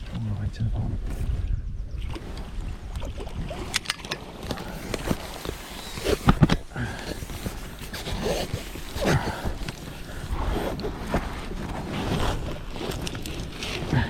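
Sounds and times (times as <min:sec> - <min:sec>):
water sloshing and splashing: 0:01.9 - 0:14.0.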